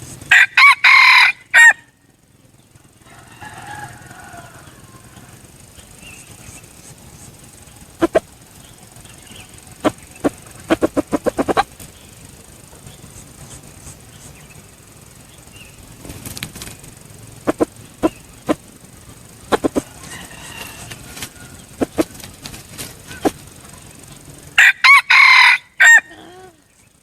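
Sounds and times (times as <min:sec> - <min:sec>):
rooster wings beating: 0:03.0 - 0:26.0.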